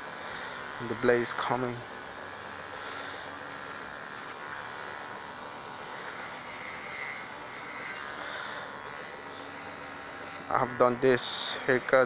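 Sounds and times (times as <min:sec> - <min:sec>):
electric hair clippers running: 0:00.0 - 0:12.0.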